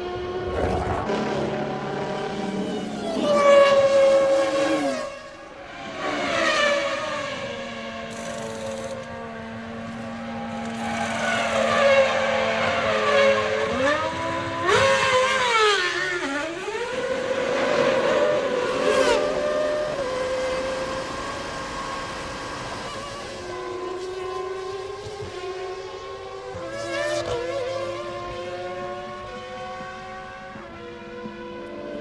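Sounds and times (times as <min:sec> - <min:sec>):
racing car engines at high revs: 0:00.0 - 0:32.0.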